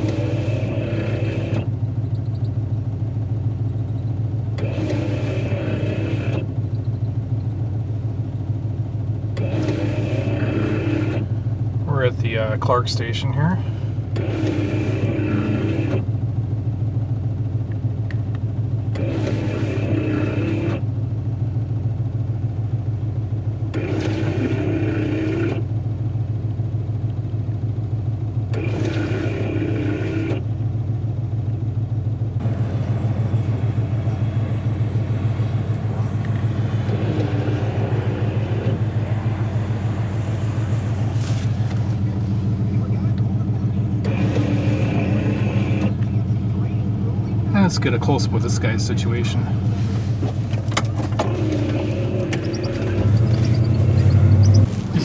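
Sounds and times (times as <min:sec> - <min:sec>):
car engine drone from inside: 0:00.0 - 0:55.0.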